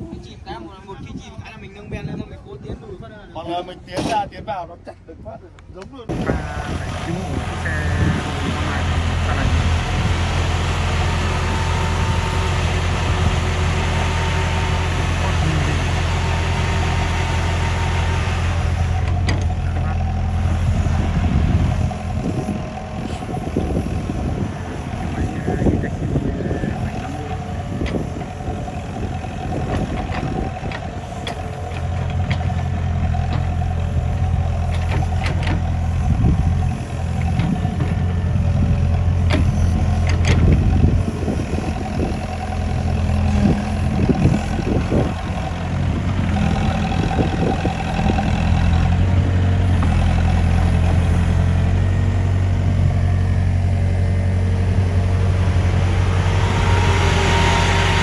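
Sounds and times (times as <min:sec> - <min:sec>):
heavy diesel engines running: 0:06.1 - 0:58.0.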